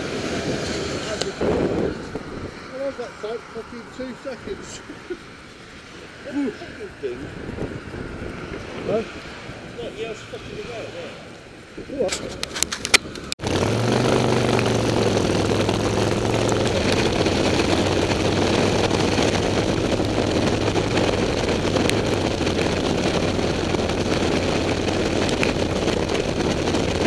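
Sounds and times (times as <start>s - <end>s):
motorcycle engine running: 0.0s - 27.0s
road noise on wet road: 0.0s - 27.0s
wind rushing: 0.0s - 27.0s.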